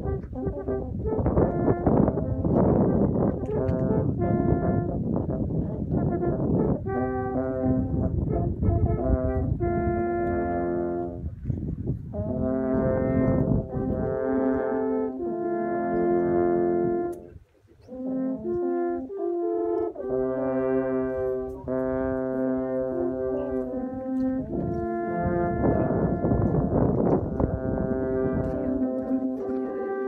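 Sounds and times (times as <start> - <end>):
alphorns playing in harmony: 0.0 - 11.3, 12.1 - 17.3, 17.9 - 30.0.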